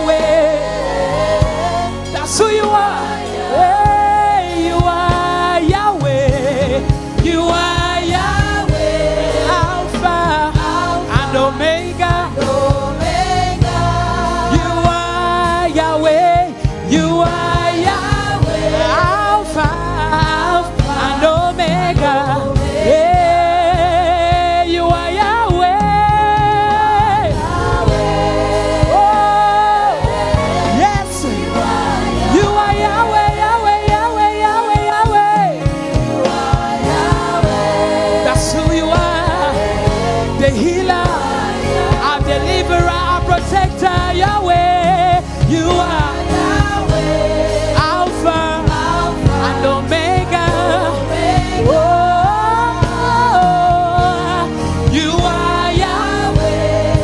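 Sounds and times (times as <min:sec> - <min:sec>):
gospel choir singing: 0:00.0 - 0:57.0
instrumental accompaniment: 0:00.0 - 0:57.0.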